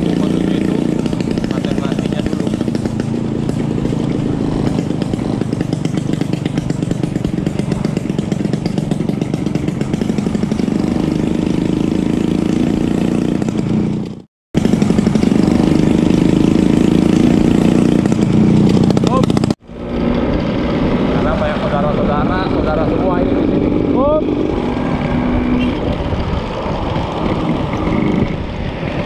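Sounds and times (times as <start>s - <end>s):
scooter engine running: 0.0s - 29.0s.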